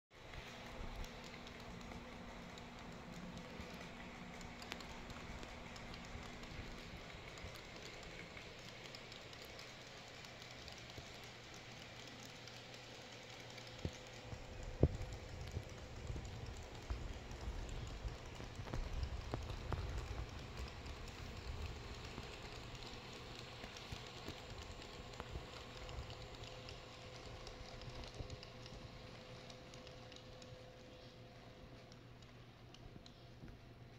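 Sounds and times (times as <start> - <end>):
model train wheels clicking: 0.1 - 33.9
faint steady whine: 0.2 - 33.9.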